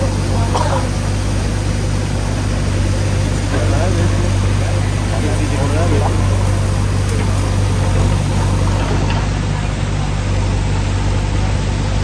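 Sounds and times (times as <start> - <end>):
floodwater rushing through culvert: 0.0 - 12.0.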